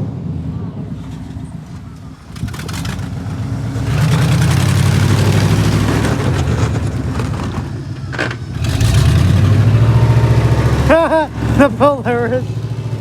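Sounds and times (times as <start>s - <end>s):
vehicle engine revving: 0.8s - 13.0s.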